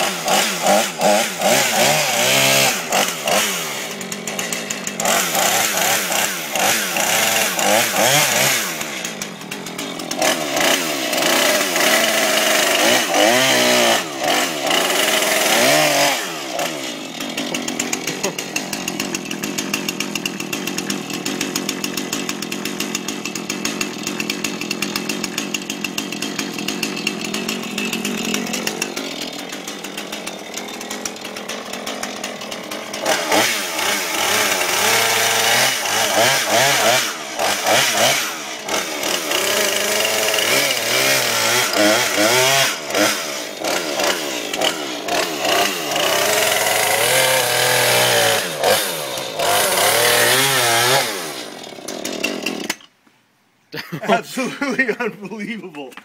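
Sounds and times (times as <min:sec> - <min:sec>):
chainsaw running and revving: 0:00.0 - 0:52.9, 0:53.8 - 0:55.9.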